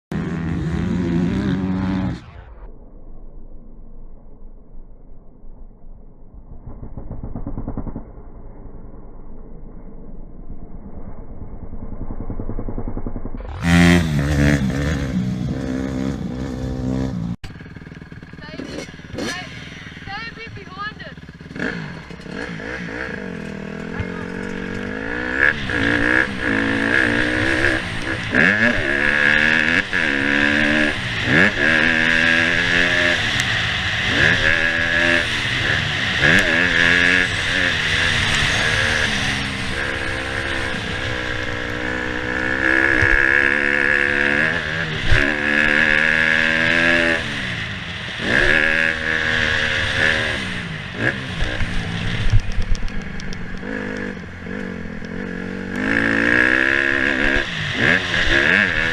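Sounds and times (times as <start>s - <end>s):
motocross bike engine revving: 0.1s - 2.7s, 12.0s - 58.9s.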